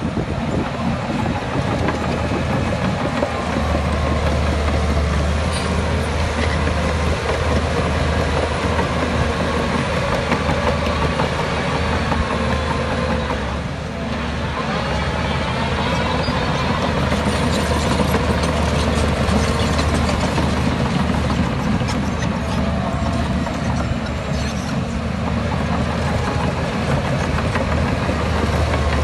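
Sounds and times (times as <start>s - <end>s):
diesel earthmoving machine running: 0.0s - 29.0s.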